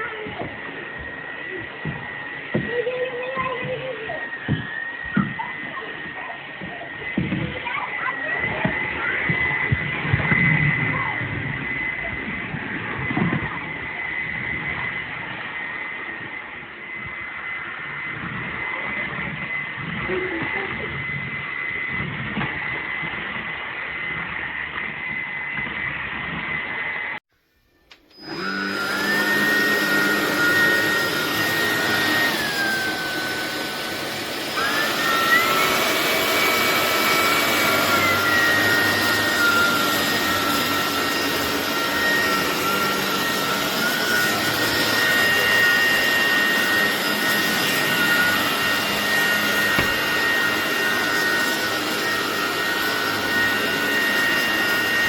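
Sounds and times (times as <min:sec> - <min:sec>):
vacuum cleaner motor whine: 0:00.0 - 0:27.2, 0:27.9 - 0:55.0.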